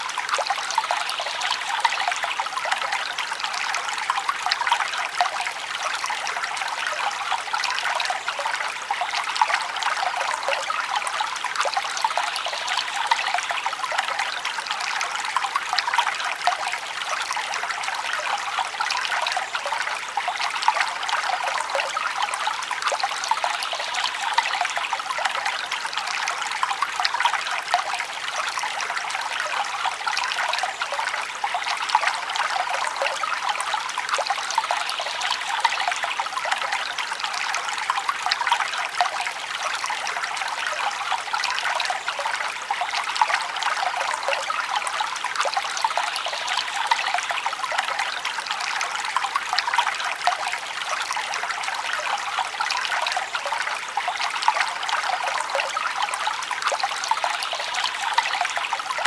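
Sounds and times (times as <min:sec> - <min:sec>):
stream trickling and splashing: 0:00.0 - 0:59.0.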